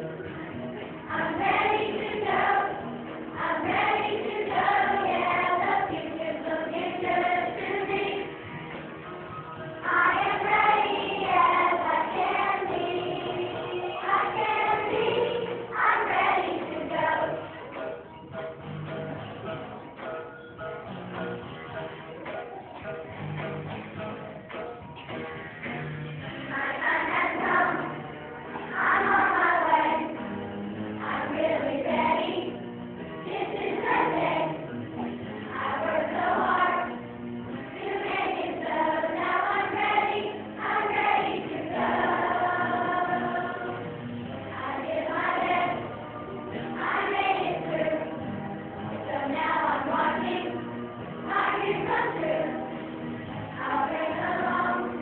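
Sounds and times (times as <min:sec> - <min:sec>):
children's choir singing: 0:00.0 - 0:08.6, 0:09.8 - 0:18.1, 0:26.5 - 0:32.6, 0:33.2 - 0:55.0
instrumental accompaniment: 0:00.0 - 0:55.0.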